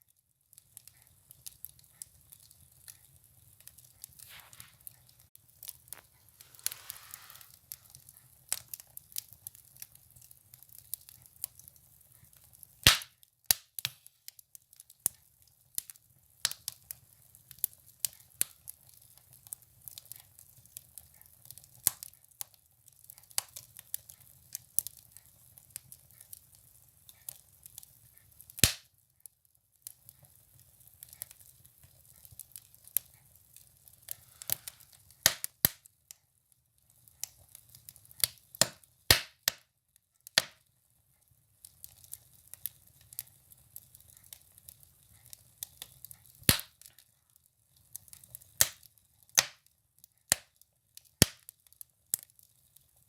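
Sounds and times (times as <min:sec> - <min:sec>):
firewood crackling and popping: 0:00.4 - 0:53.0.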